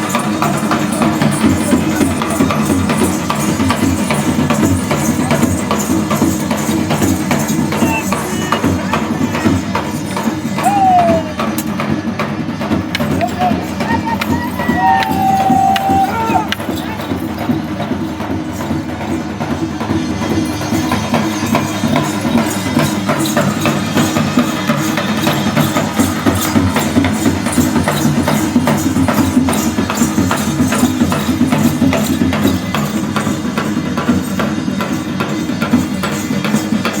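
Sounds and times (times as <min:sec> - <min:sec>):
fast jingling percussion music: 0:00.0 - 0:37.0.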